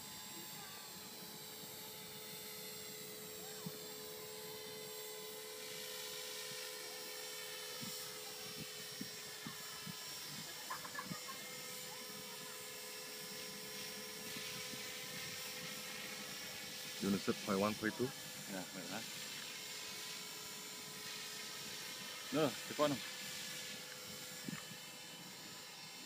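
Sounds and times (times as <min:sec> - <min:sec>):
rc helicopter motor whine: 0:00.0 - 0:26.0.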